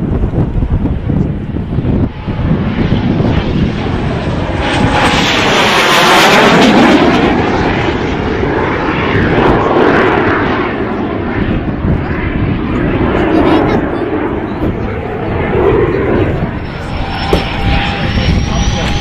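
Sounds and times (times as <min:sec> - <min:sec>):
jet flying past: 0:00.0 - 0:19.0.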